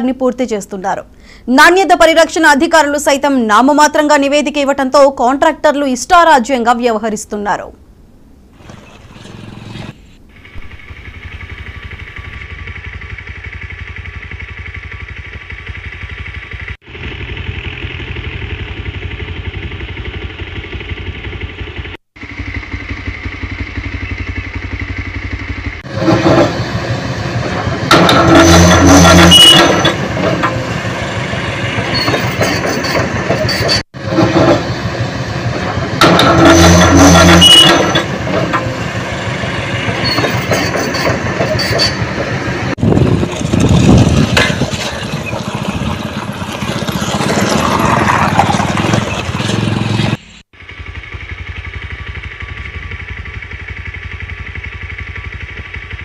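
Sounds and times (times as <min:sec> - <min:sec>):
excavator diesel engine running: 0:08.6 - 0:56.0.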